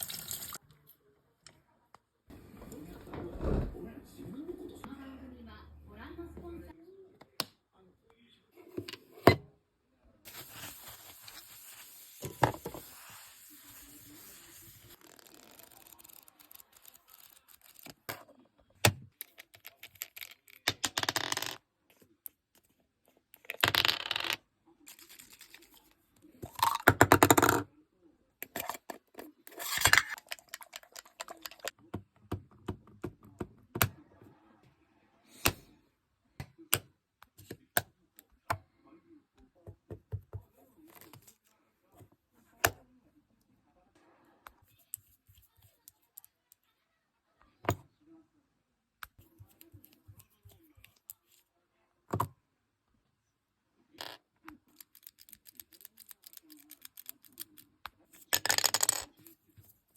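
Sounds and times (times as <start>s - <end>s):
television voice: 0.0s - 59.9s.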